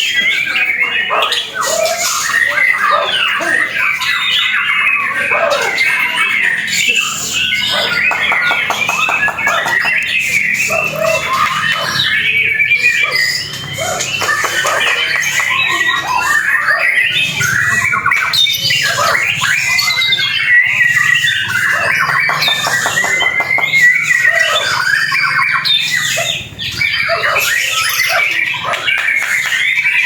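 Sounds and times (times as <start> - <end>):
songbird singing trills and whistles: 0.0 - 30.0.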